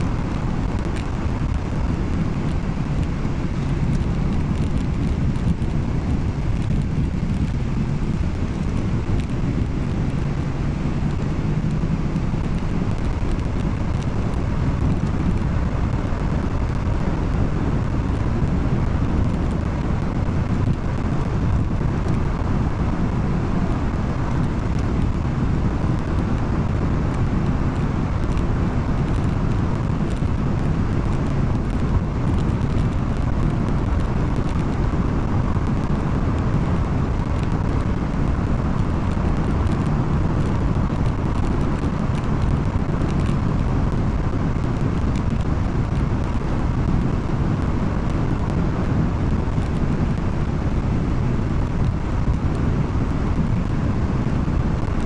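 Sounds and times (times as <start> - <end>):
car road noise and engine drone: 0.0 - 55.0.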